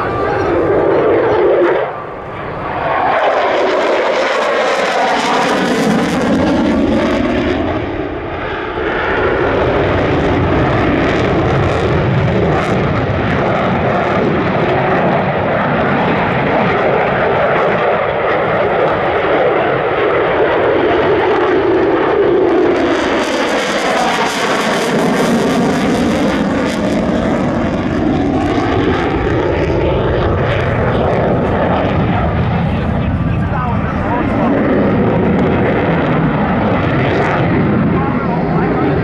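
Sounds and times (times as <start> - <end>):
jet engine roaring: 0.0 - 39.0.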